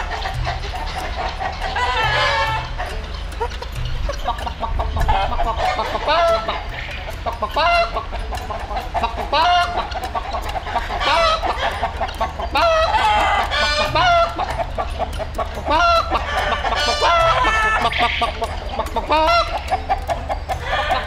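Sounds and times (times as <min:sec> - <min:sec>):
hens clucking: 0:00.0 - 0:21.0
roosters crowing: 0:00.0 - 0:21.0.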